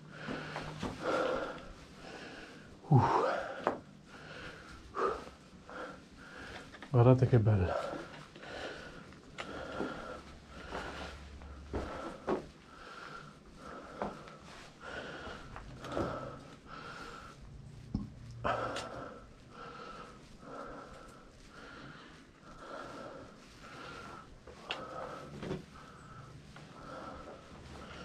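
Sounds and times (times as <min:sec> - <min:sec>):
person breathing hard: 0:00.0 - 0:06.9, 0:07.6 - 0:17.8, 0:18.4 - 0:28.0.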